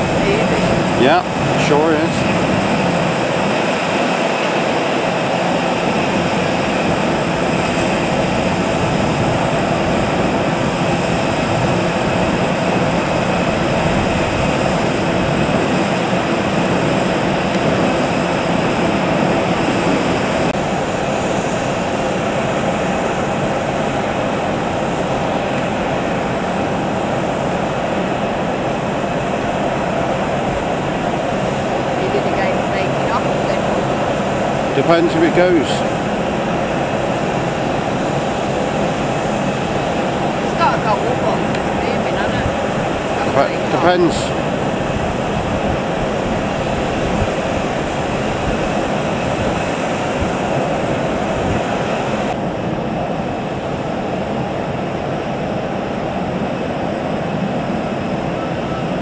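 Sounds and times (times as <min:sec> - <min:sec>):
faint high whine: 0:00.0 - 0:59.0
jet aircraft rushing hum: 0:00.0 - 0:59.0.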